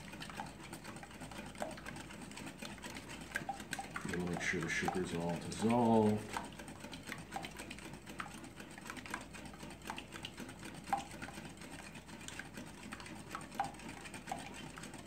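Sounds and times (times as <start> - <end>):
soft swish of whisking: 0.0 - 15.0
whisk wires tapping glass bowl: 0.0 - 15.0.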